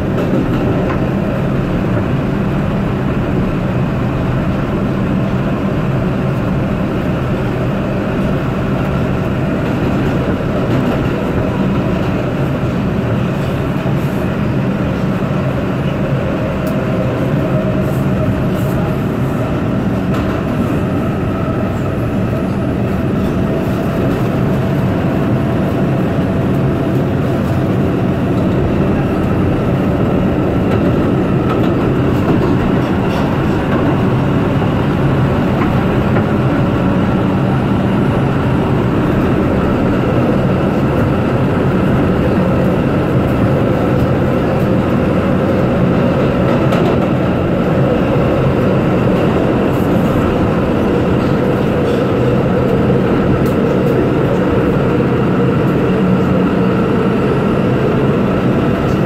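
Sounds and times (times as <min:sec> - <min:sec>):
subway train wheels rumbling: 0:00.0 - 0:59.0.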